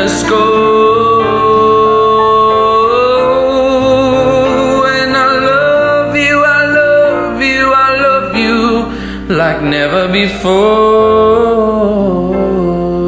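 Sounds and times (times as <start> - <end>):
instrumental backing: 0.0 - 13.0
person singing: 0.0 - 13.0.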